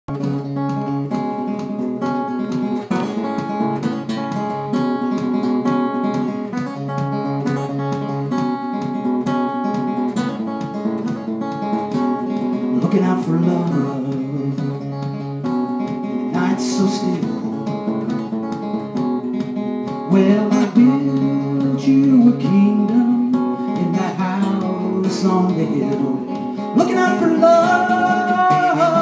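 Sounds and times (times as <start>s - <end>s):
acoustic guitar strumming: 0.1s - 29.0s.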